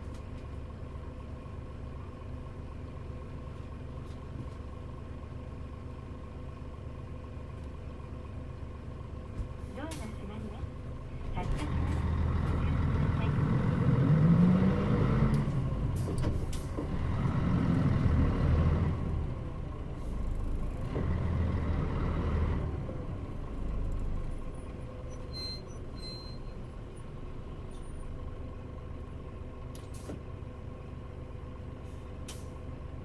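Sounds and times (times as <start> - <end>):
bus diesel engine: 0.0 - 33.0.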